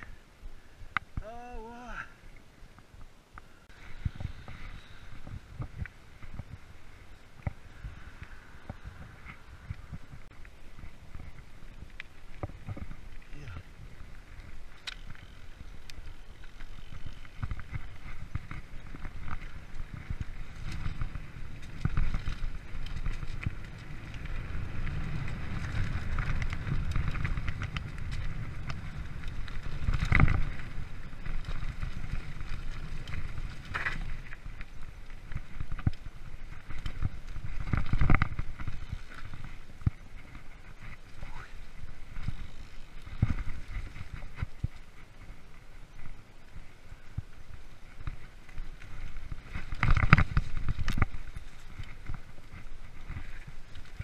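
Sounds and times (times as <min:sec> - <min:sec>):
bike tyre rumble: 0:00.0 - 0:54.0
bike rattling over bumps: 0:03.7 - 0:54.0.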